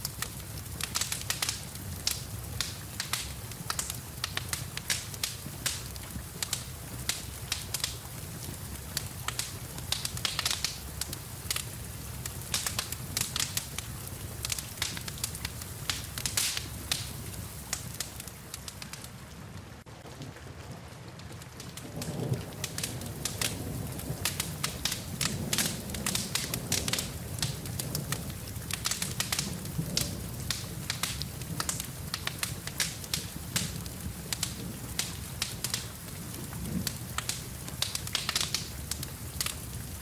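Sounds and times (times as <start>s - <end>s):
rain hiss: 0.0s - 40.0s
wood fire crackling and popping: 0.0s - 40.0s.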